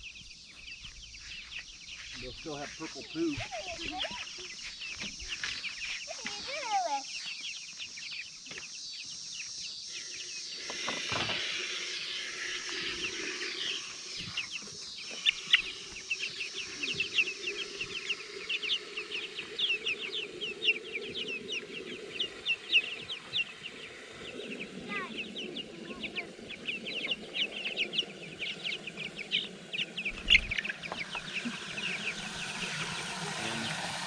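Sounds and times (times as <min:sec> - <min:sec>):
chicks peeping and chirping: 0:00.0 - 0:34.0.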